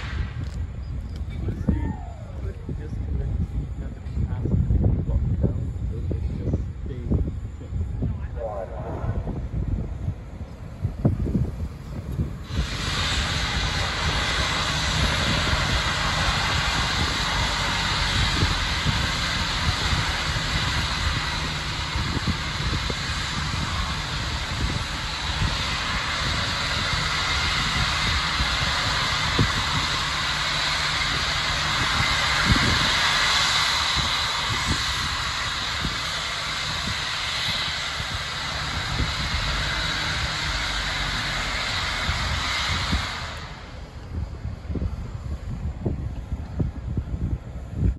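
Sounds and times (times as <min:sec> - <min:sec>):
loud hiss of gas venting: 0:00.0 - 0:47.9
low rumble: 0:00.0 - 0:47.9.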